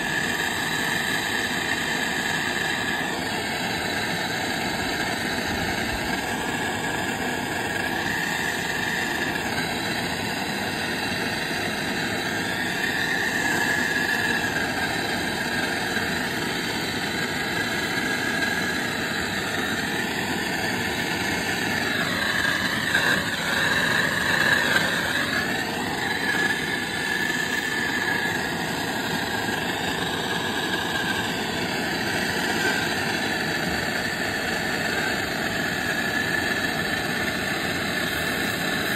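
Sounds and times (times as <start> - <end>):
soldering torch flame hissing: 0.0 - 38.9.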